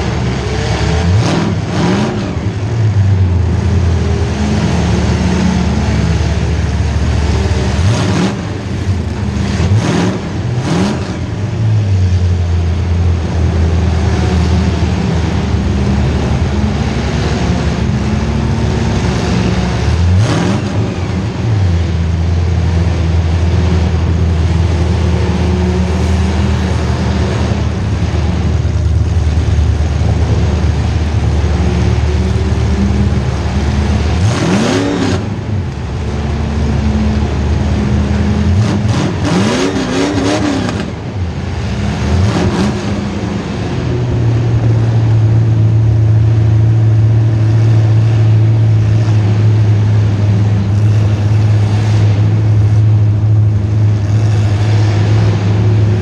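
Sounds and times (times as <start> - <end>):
car engine revving hard: 0.0 - 2.9, 3.5 - 45.1, 47.0 - 56.0.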